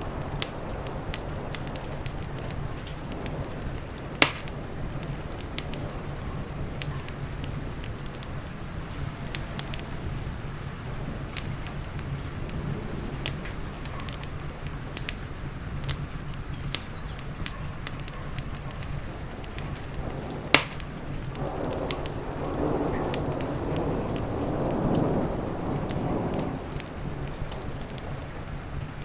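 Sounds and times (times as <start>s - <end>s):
heavy rain: 0.0s - 29.0s
thunder rumbling: 0.0s - 29.0s
wood fire crackling and popping: 0.0s - 29.0s.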